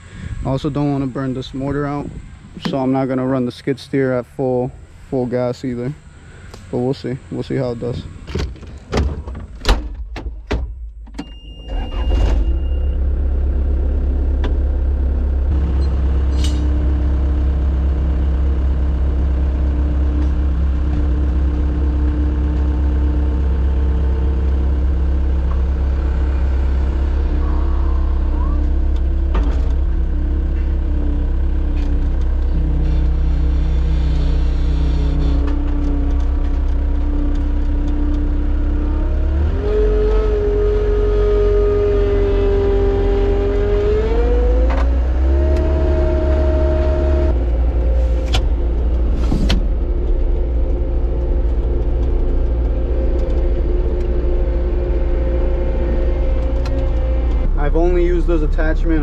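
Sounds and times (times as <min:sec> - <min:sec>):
diesel engine running: 0:00.0 - 0:09.6, 0:11.7 - 0:59.0.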